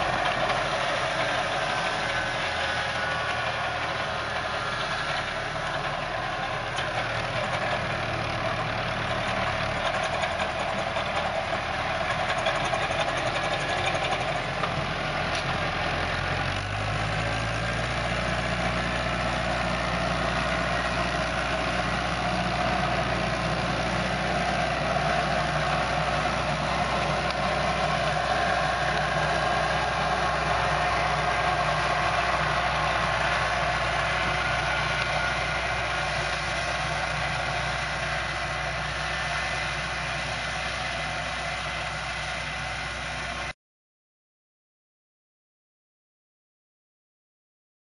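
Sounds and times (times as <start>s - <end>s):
tractor diesel engine running: 0.0s - 43.6s.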